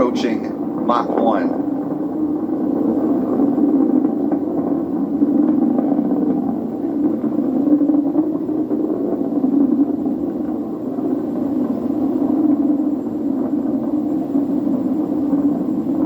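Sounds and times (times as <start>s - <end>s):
distant rocket engine roar: 0.0s - 16.0s.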